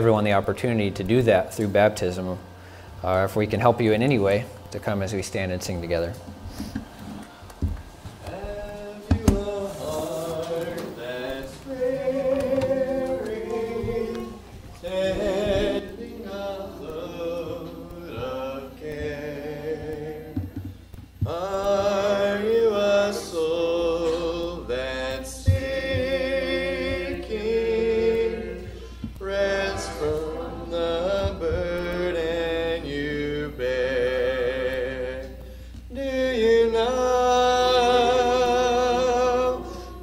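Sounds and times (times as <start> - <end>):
congregation singing a hymn: 0.0 - 40.0.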